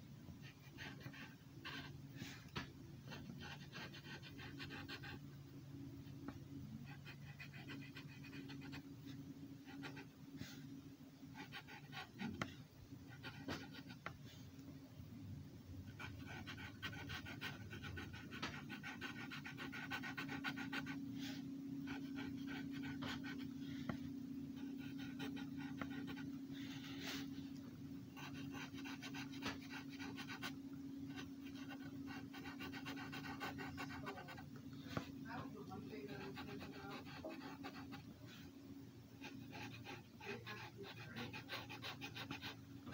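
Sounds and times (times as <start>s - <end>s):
steady low hum: 0.0s - 42.9s
marker scratching on paper: 0.4s - 5.3s, 6.2s - 10.6s, 11.3s - 14.2s, 15.9s - 38.5s, 39.2s - 42.9s.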